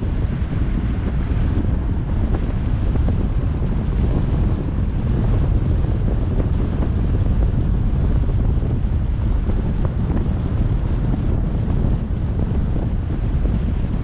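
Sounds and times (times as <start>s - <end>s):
tyre and road noise: 0.0s - 14.0s
wind buffeting microphone: 0.0s - 14.0s.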